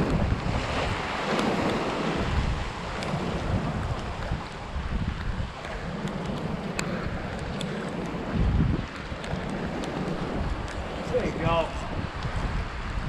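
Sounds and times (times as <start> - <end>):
waves breaking against rocks: 0.0 - 13.0
wind buffeting microphone: 0.0 - 13.0.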